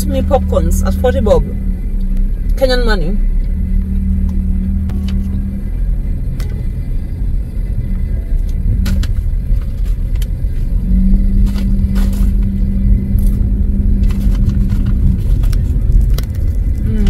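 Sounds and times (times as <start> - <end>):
car engine and road noise: 0.0 - 17.0
steady hum: 0.0 - 17.0.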